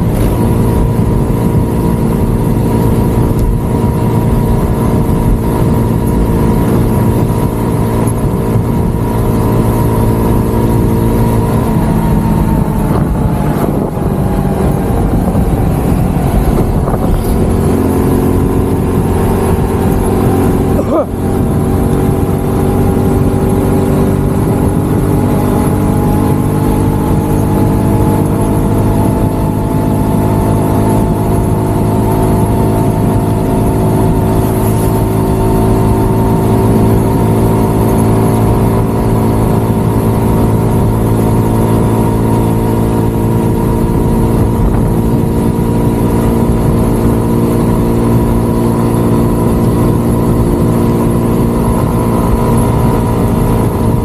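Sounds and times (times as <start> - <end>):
motorcycle engine cruising: 0.0 - 54.0
wind on microphone: 0.0 - 54.0.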